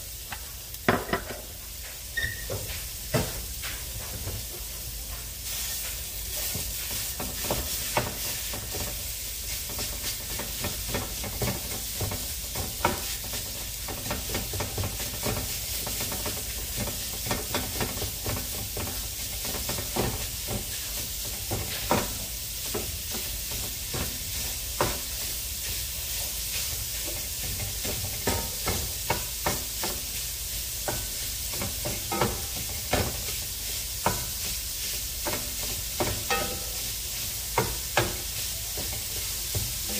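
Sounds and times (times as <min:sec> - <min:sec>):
sausage sizzling in a skillet: 0:00.0 - 0:39.9.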